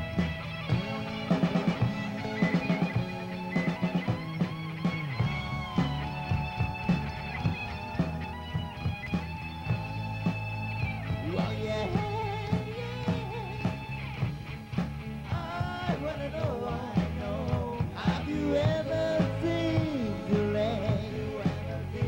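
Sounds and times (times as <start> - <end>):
rock song with singing: 0.0 - 22.0.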